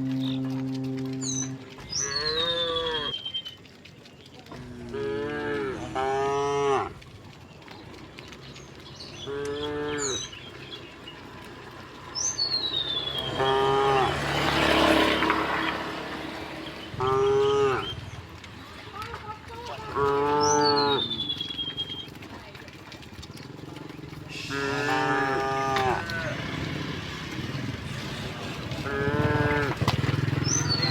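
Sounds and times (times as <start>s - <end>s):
cows mooing: 0.0s - 3.5s, 4.5s - 30.9s.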